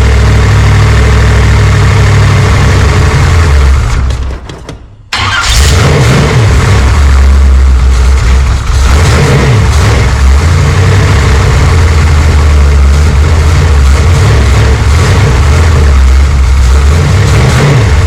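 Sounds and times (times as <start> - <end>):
car engine idling: 0.0 - 4.1, 5.1 - 18.0.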